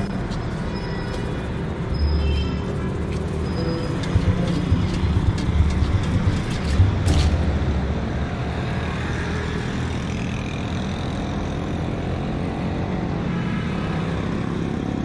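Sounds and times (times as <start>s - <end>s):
busy road traffic rumble: 0.0s - 15.0s.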